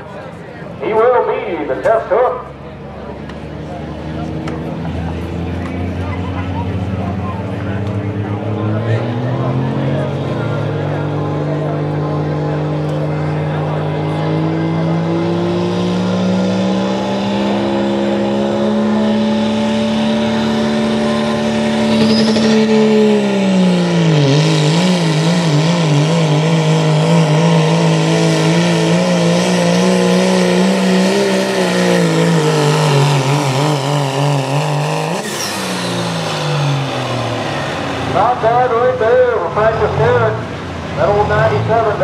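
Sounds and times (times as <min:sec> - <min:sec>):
diesel truck engine at full throttle: 0:00.0 - 0:42.0.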